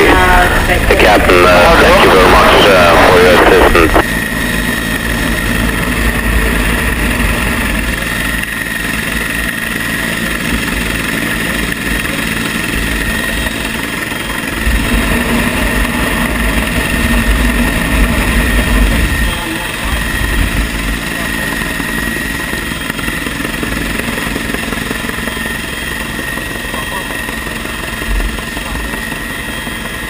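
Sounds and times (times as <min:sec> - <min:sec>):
helicopter engines and rotor: 0:00.0 - 0:30.0.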